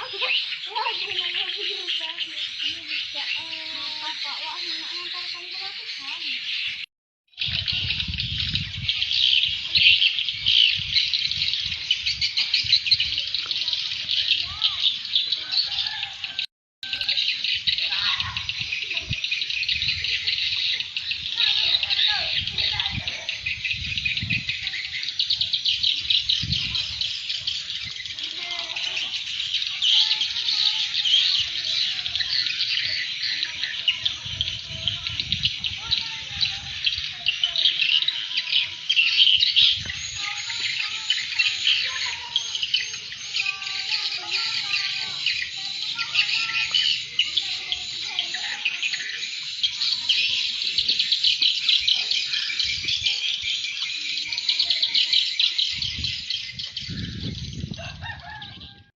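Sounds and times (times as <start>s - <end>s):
swiftlet call chatter: 0.0s - 58.9s.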